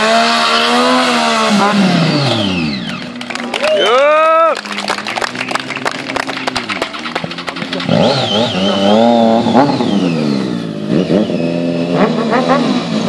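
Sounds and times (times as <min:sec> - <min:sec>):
motorcycle engine revving: 0:00.0 - 0:03.6, 0:04.6 - 0:13.0.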